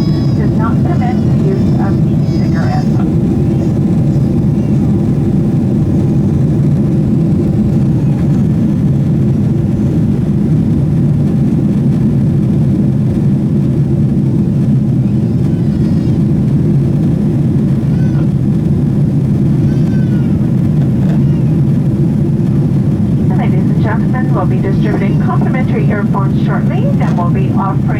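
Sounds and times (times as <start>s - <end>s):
airplane cabin rumble: 0.0s - 27.9s.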